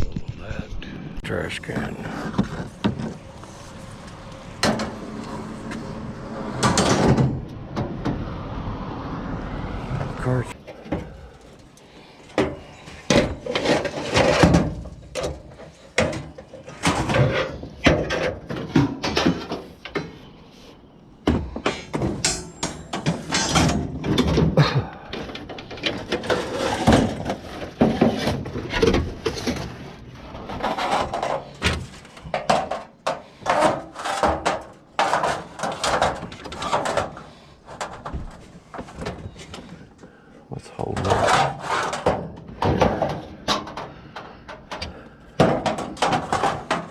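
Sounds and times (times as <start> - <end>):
junk knocking and clattering: 1.6 - 3.3, 4.6 - 5.8, 6.4 - 8.3, 12.3 - 20.2, 21.2 - 40.1, 40.8 - 46.9.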